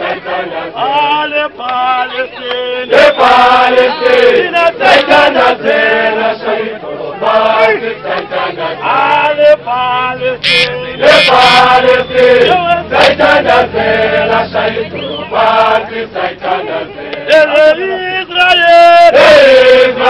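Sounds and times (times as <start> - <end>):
crowd singing protest song: 0.0 - 20.0.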